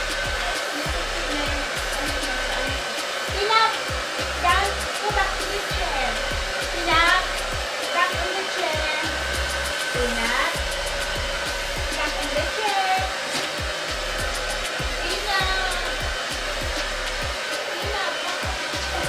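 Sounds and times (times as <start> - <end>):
gliding pitched sounds: 0.0 - 19.0
hair dryer blowing: 0.0 - 19.0.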